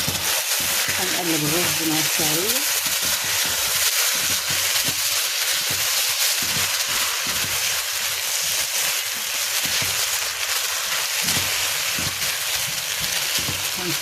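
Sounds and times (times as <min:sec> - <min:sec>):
rice sizzling in oil: 0:00.0 - 0:14.0.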